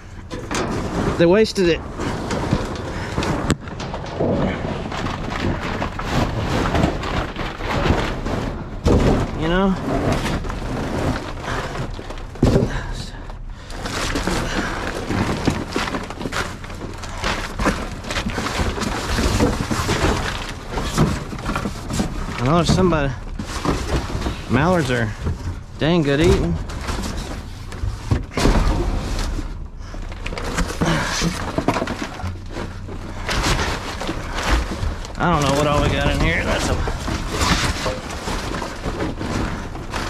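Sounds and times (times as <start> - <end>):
knocks and scraping of items: 0.0 - 40.0
trash rummaging in dumpster: 0.0 - 40.0.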